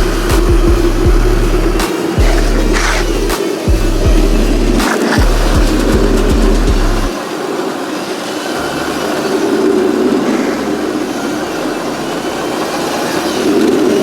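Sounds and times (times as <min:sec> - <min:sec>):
small wheels rumbling on pavement: 0:00.0 - 0:14.0.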